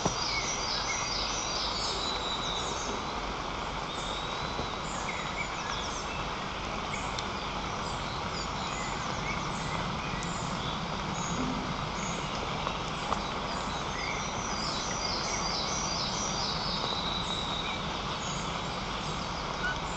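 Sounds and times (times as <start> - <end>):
outdoor background hiss: 0.0 - 19.9
small birds chirping: 0.0 - 19.9.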